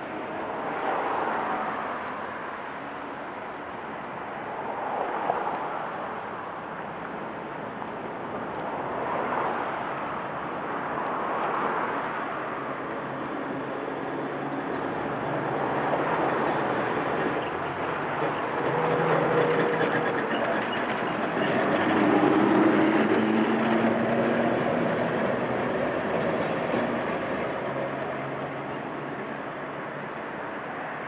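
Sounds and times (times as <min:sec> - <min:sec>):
streetcar wheels rumbling on rails: 0:00.0 - 0:31.0.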